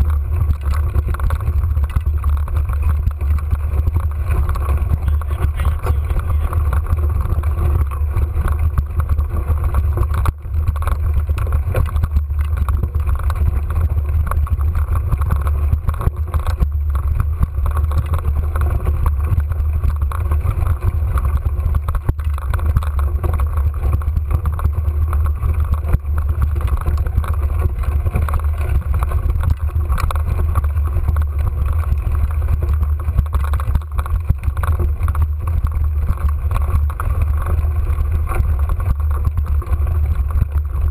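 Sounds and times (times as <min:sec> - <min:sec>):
bike knocks and rattles: 0:00.0 - 0:40.9
bike rumbling on dirt trail: 0:00.0 - 0:40.9.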